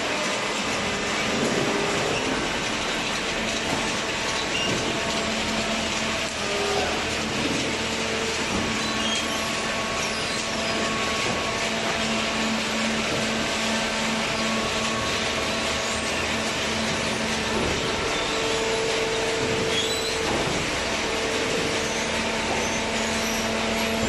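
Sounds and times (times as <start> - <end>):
cardboard baler running: 0.0 - 24.0
hydraulic unit hum: 0.0 - 24.0.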